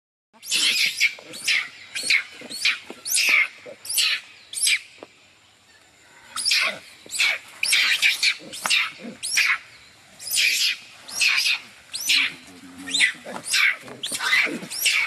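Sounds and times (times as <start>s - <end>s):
baby monkey screaming: 0.4s - 4.8s, 6.4s - 9.6s, 10.2s - 15.0s.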